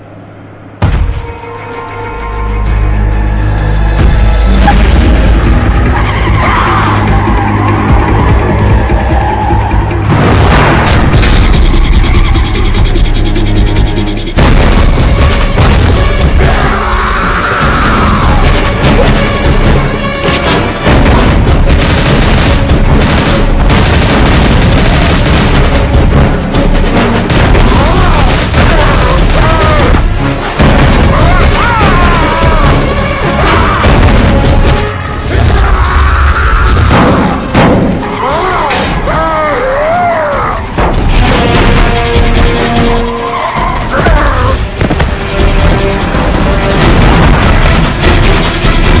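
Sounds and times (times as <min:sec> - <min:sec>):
loud soundtrack music: 0:00.0 - 0:49.0.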